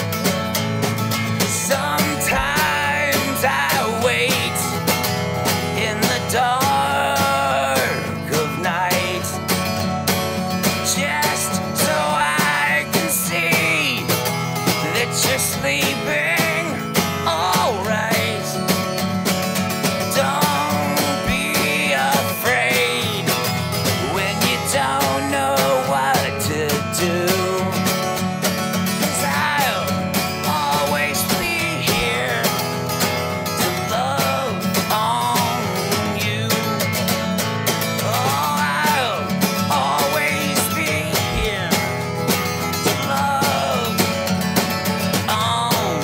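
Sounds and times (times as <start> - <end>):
acoustic guitar strumming: 0.0 - 46.0
man singing: 1.3 - 46.0.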